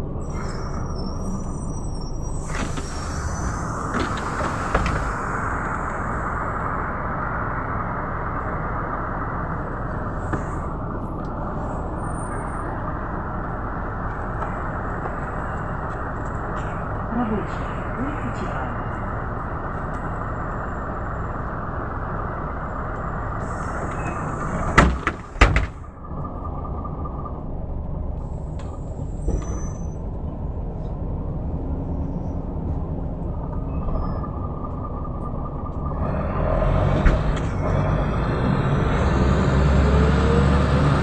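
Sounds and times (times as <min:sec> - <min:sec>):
bus diesel engine idling: 0:00.0 - 0:39.4.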